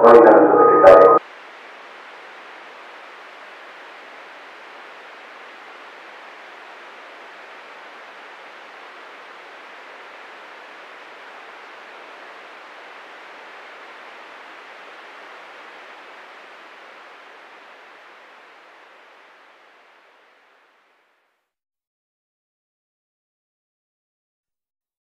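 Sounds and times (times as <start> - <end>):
television static hiss: 0.0 - 21.4.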